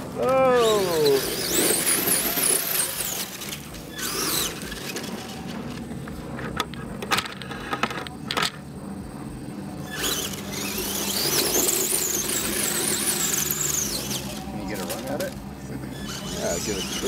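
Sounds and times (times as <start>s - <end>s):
toy truck motor whining: 0.0s - 8.6s, 9.7s - 17.0s.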